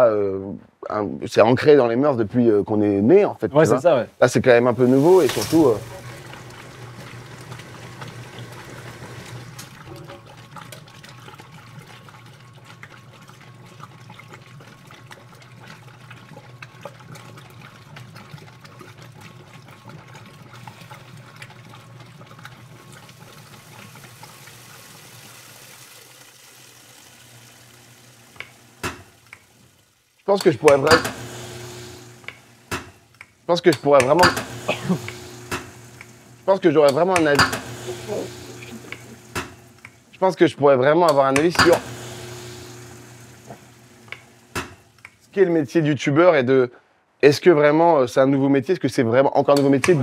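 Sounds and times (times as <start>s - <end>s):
water sloshing in washing machine: 4.4s - 40.3s, 41.1s - 45.3s, 49.5s - 50.0s.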